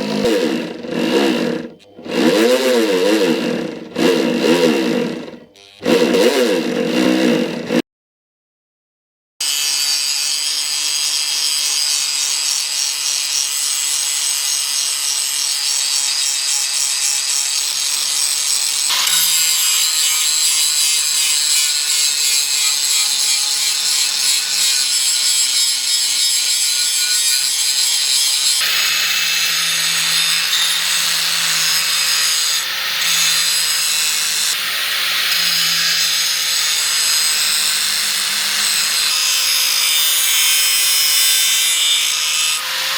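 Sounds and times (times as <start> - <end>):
power tool grinding steel: 0.0 - 7.8, 9.4 - 42.9.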